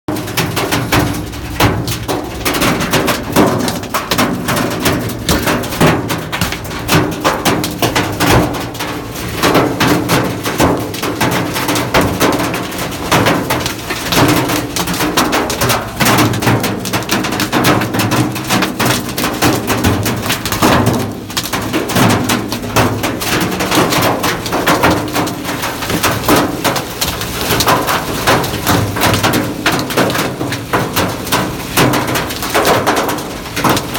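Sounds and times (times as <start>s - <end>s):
hail clattering on hard surfaces: 0.1s - 33.9s.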